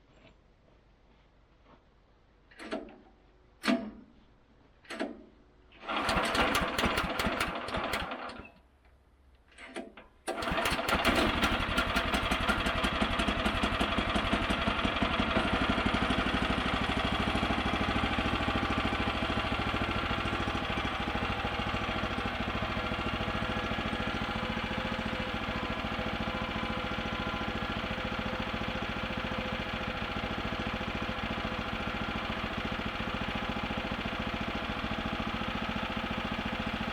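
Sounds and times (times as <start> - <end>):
small gasoline engine starting: 5.7 - 8.6, 10.2 - 36.9.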